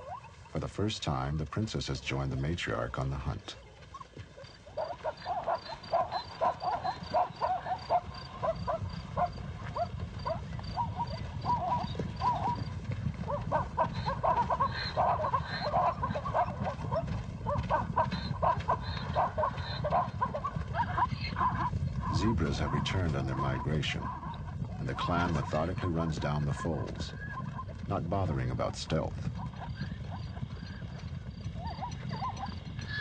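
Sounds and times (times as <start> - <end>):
zebras barking: 3.9 - 30.8, 31.6 - 33.0.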